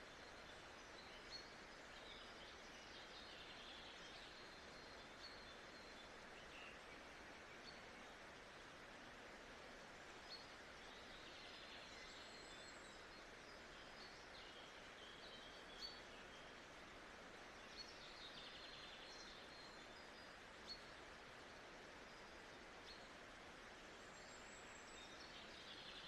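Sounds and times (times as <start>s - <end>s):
even ambient hiss: 0.0s - 26.0s.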